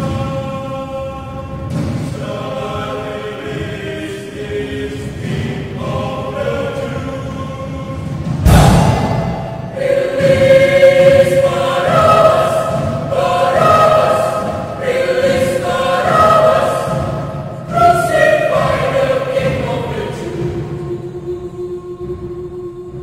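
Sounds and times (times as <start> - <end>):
mixed choir singing: 0.0 - 23.0.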